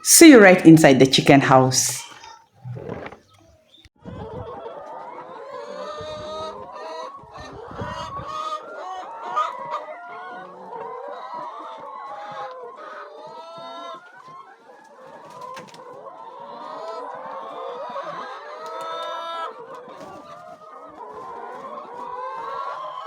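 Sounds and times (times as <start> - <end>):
chickens clucking: 1.6 - 23.0.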